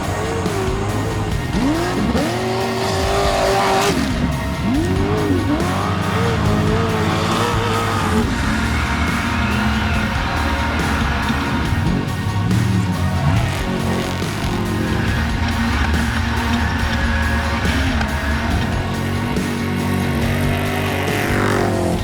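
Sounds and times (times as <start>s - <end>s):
music track: 0.0s - 22.0s
race vehicle engines revving: 0.0s - 22.0s.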